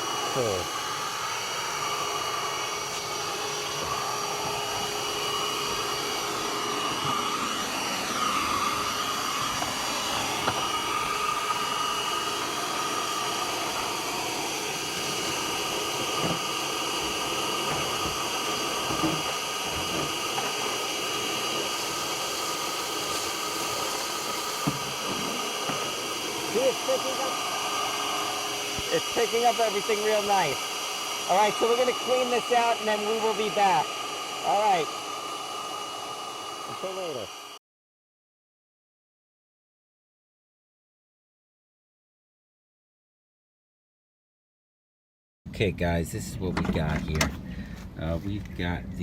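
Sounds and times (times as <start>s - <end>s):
shop vac whining: 0.0s - 37.6s, 45.5s - 49.0s.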